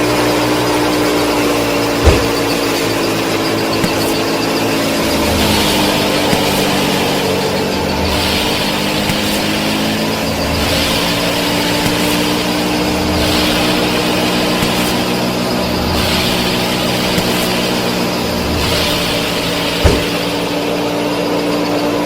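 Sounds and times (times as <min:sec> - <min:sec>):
high hiss: 0:01.6 - 0:20.7.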